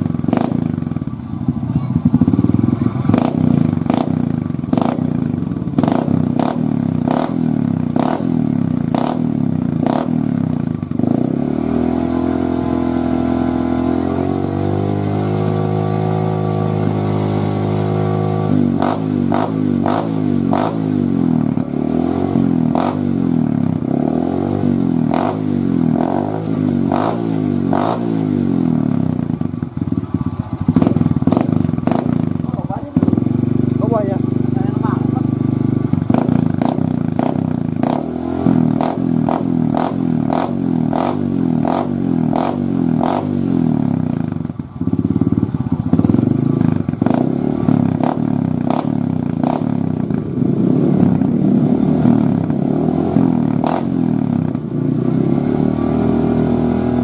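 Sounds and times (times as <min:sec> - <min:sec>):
motorcycle engine revving with pops: 0:00.0 - 0:57.0.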